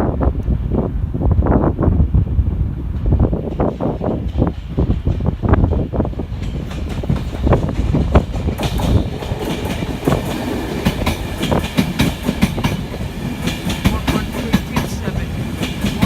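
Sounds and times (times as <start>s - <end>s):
train low rumble: 0.0s - 16.0s
train wheels clattering over rails: 2.9s - 16.0s.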